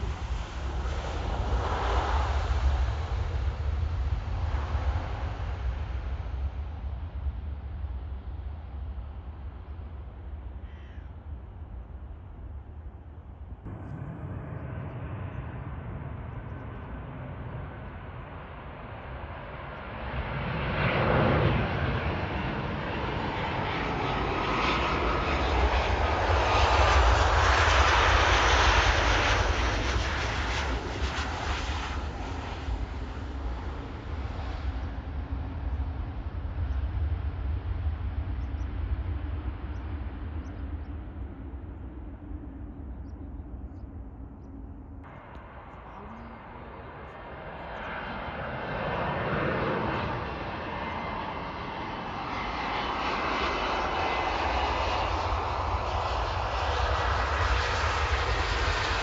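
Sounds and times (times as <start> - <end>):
jet engines passing: 0.0 - 59.0
steady low rumble: 0.0 - 59.0.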